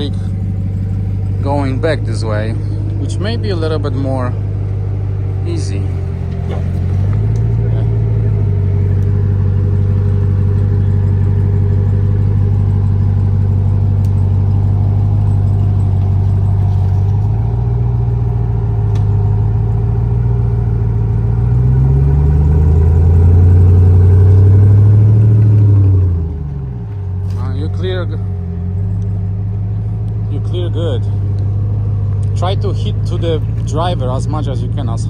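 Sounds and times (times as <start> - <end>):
pickup truck engine revving: 0.0 - 35.0.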